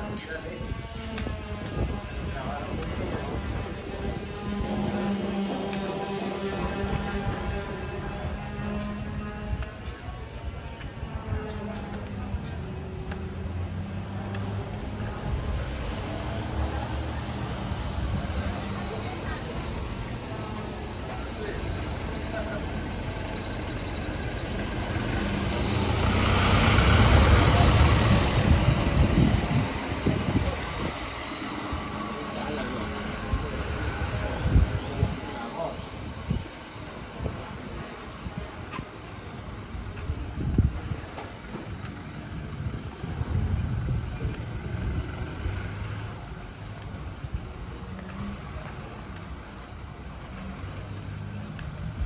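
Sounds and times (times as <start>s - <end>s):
engine rumble of passing vehicle: 0.0s - 52.0s.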